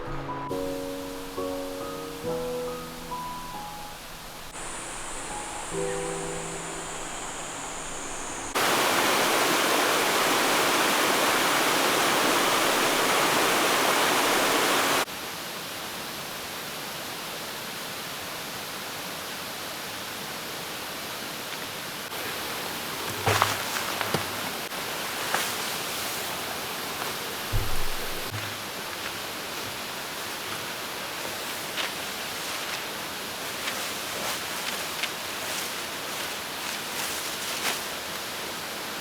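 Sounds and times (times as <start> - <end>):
mountain stream rushing: 0.0 - 21.2, 21.8 - 39.0.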